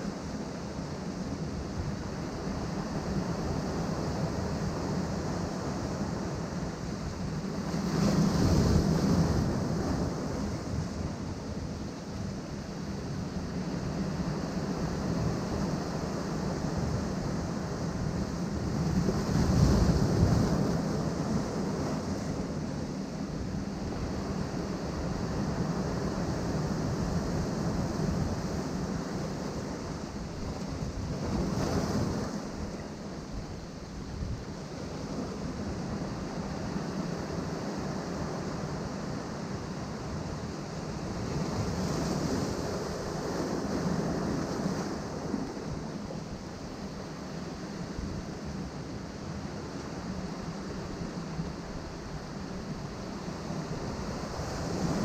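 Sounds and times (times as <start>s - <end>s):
waves on rocky shore: 0.0s - 55.0s.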